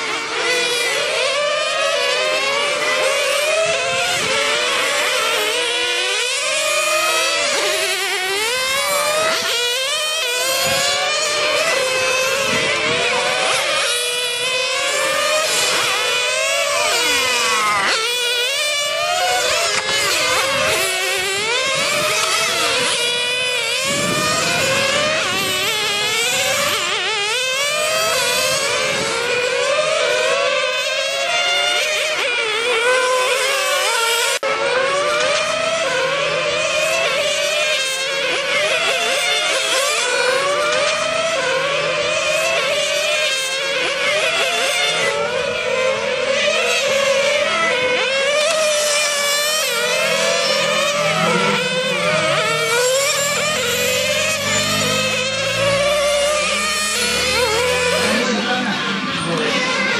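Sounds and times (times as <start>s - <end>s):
small engines whining at high revs: 0.0s - 59.9s.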